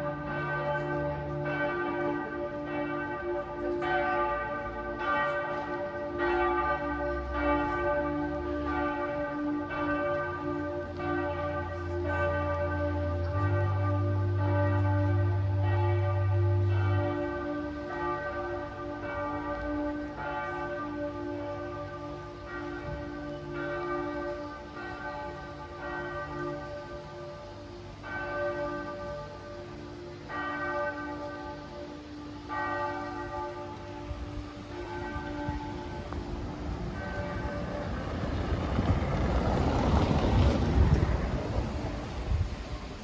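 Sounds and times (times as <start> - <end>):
church bells ringing: 0.0 - 43.0.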